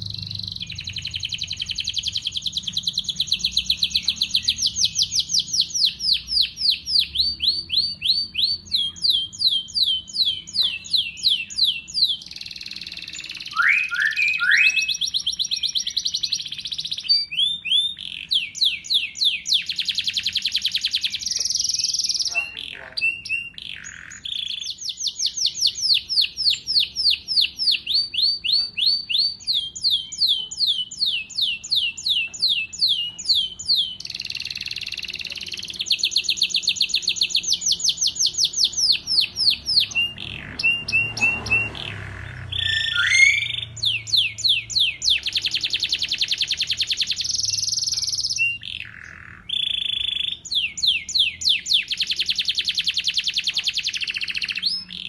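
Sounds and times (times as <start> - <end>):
songbird singing trilled phrases: 0.0 - 55.0.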